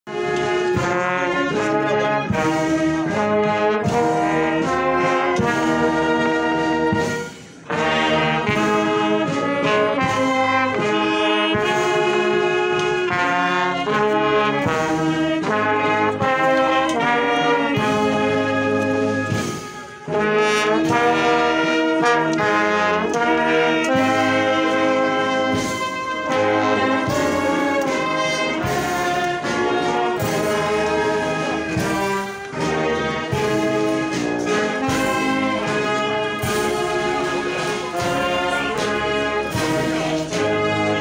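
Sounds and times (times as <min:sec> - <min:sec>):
brass band playing held chords: 0:00.1 - 0:41.0.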